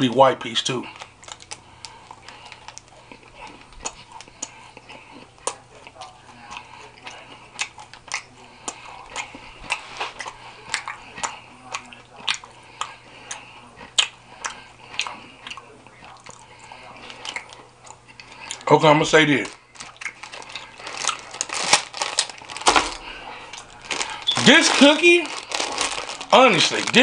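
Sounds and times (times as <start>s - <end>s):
person chewing cookie: 0.7s - 27.0s.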